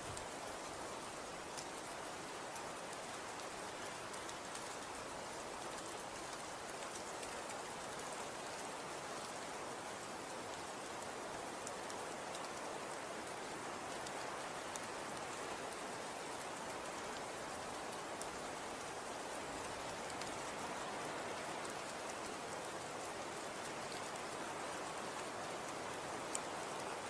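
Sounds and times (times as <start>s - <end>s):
snow falling hiss: 0.0s - 27.0s.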